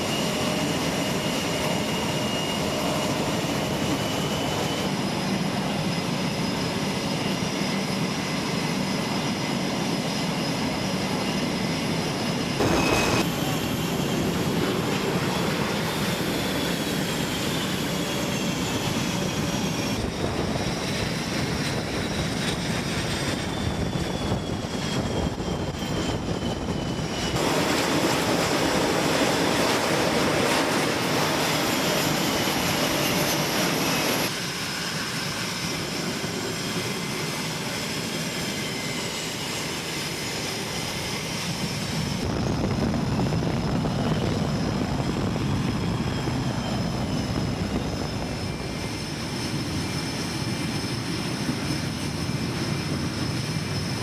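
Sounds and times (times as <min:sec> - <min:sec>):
aircraft engines whining: 0:00.0 - 0:54.0.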